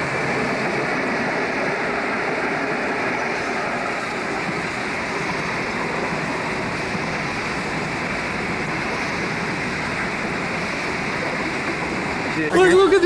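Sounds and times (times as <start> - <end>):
diesel locomotives rumbling past: 0.0 - 13.0.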